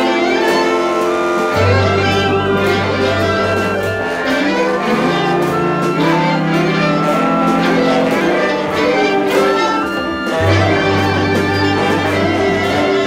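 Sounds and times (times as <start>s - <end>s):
orchestra playing held chords: 0.0s - 13.0s
percussion strikes: 0.0s - 13.0s.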